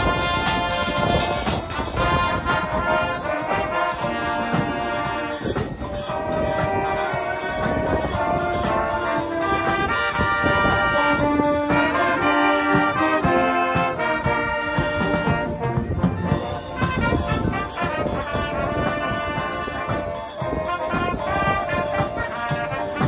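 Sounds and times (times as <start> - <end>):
drum-kit beat: 0.0 - 23.0
wind band playing: 0.0 - 23.0.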